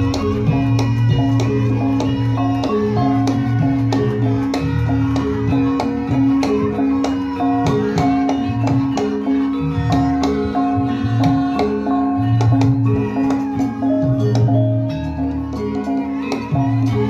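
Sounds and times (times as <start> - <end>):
hand drum strokes: 0.0 - 17.0
held melodic notes: 0.0 - 17.0.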